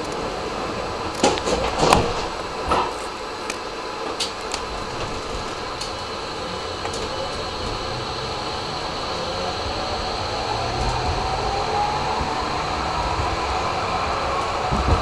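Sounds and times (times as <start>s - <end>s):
tram motors whining: 0.0s - 15.0s
wheels running on rails: 0.0s - 15.0s.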